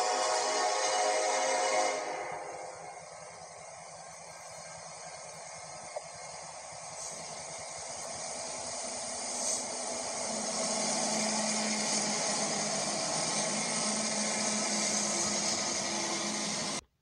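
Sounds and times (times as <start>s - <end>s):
locomotives passing: 2.0s - 16.8s.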